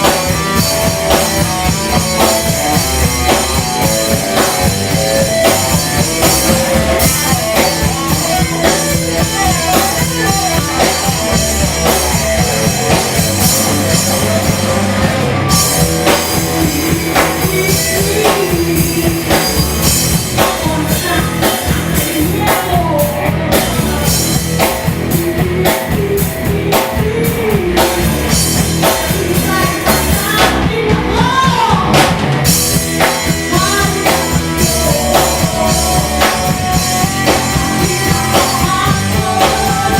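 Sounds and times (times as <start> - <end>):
drum kit beat: 0.0 - 39.9
rock band playing live: 0.0 - 39.9.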